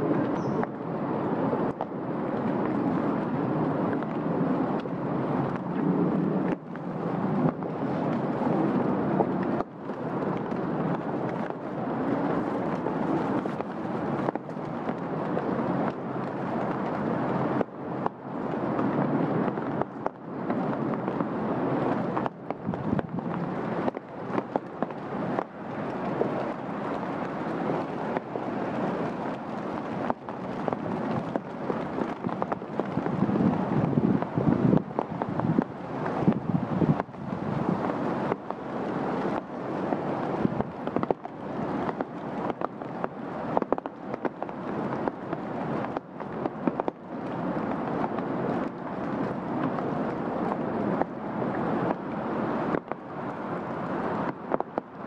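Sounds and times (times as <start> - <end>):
rain on foliage: 0.0 - 55.0
wind rumbling on microphone: 0.0 - 55.0.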